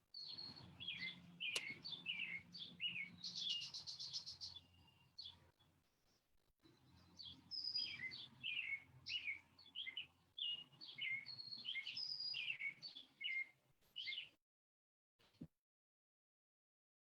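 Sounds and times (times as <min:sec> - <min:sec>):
songbird chirping: 0:00.0 - 0:14.4.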